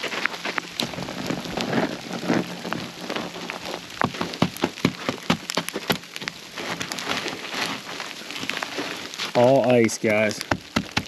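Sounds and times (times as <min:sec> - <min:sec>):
ice pellets ticking on surfaces: 0:00.0 - 0:11.0.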